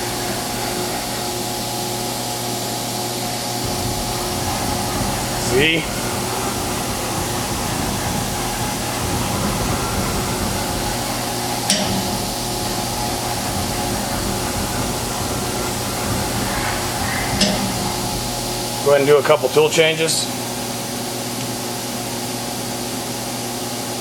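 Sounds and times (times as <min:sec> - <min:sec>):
machine hum: 0:00.0 - 0:22.8.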